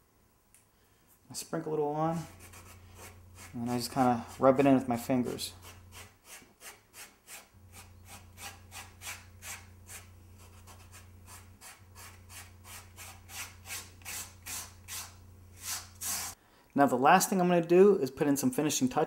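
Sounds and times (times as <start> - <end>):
steady low hum: 0.0 - 6.2, 7.4 - 17.1.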